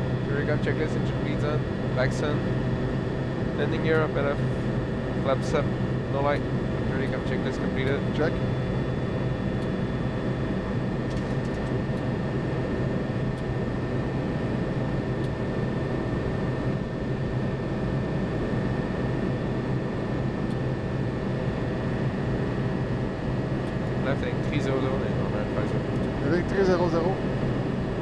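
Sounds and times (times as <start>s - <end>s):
aircraft engine noise: 0.0s - 28.0s
steady hums: 0.0s - 28.0s.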